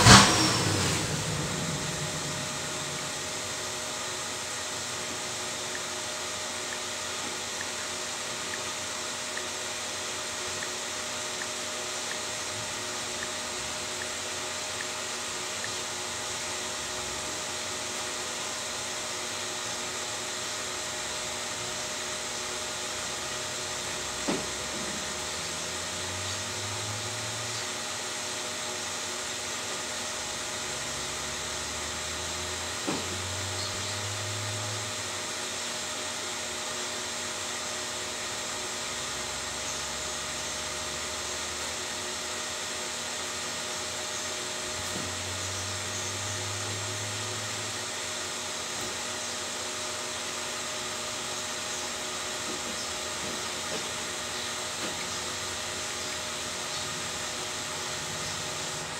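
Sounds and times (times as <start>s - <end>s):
fan whooshing with faint hum: 0.0s - 58.9s.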